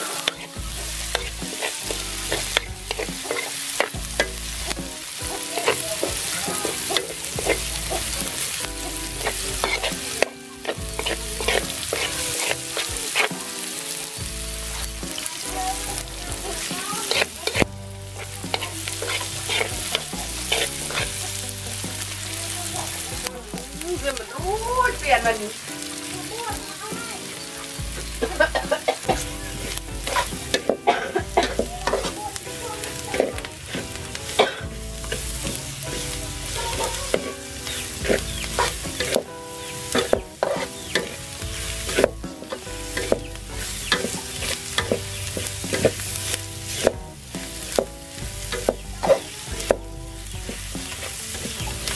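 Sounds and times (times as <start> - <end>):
spatula scraping a wok: 0.0 - 51.9
vegetables sizzling in a wok: 0.0 - 51.9.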